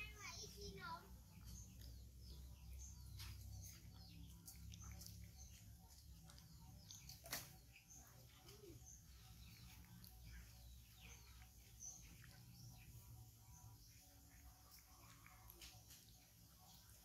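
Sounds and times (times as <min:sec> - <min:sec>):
small animal chirps and squeaks: 0:00.1 - 0:17.0.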